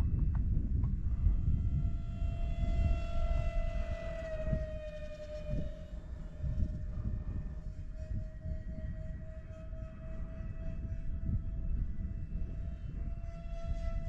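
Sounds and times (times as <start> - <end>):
model airplane motor whine: 0.0 - 14.0
wind rumble on microphone: 0.0 - 14.0.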